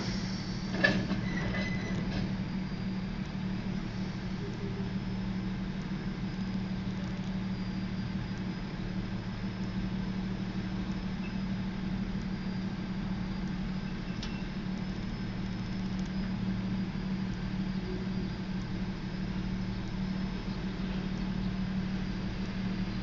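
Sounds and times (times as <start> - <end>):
car engine idling hum: 0.0 - 23.0.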